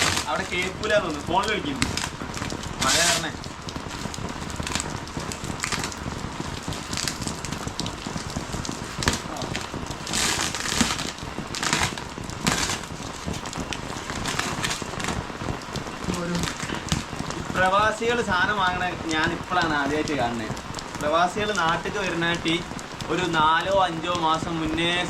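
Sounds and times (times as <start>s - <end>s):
crackling rustles: 0.0s - 25.0s
heavy rain: 0.0s - 25.0s.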